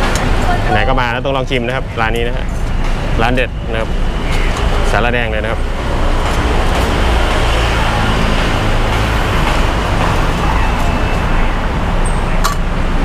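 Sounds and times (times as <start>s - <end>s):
busy road traffic: 0.0s - 13.0s.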